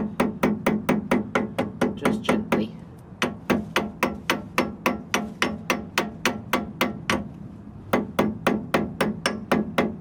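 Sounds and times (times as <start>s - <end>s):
hammer tapping on metal: 0.0s - 7.3s, 7.9s - 10.0s.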